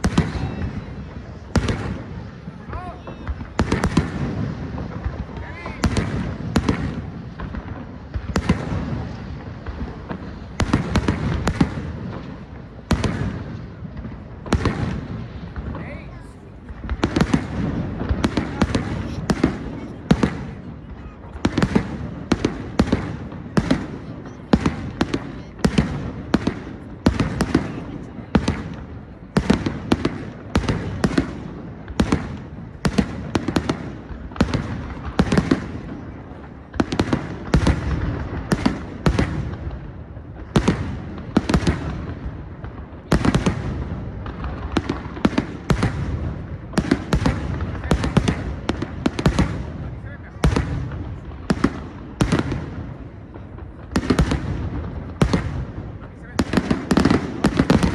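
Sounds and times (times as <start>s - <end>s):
fireworks bangs: 0.0s - 57.9s.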